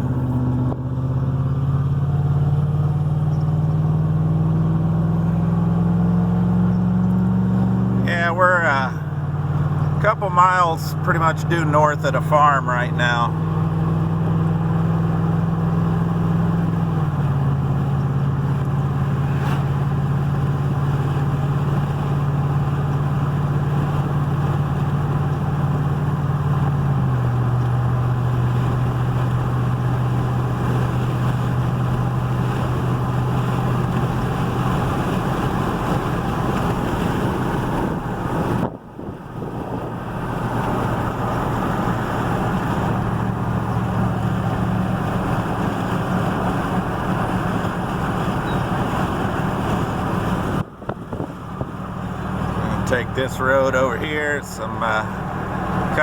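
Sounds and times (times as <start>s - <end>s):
road and tyre noise: 0.0s - 56.0s
vehicle engine hum: 0.0s - 56.0s.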